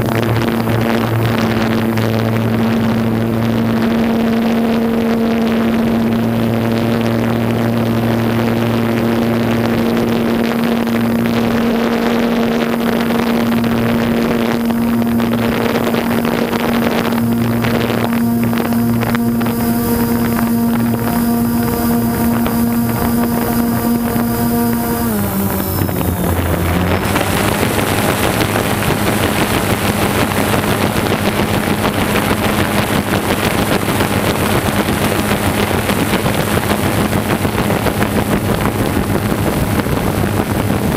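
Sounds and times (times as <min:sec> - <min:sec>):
drone propellers buzzing: 0:00.0 - 0:40.9
low hum: 0:00.0 - 0:40.9.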